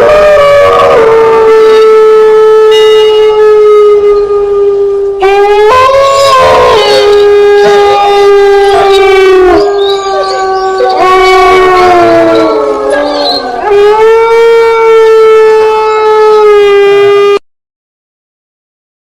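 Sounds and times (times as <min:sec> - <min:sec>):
ghostly wailing cry: 0:00.0 - 0:17.4.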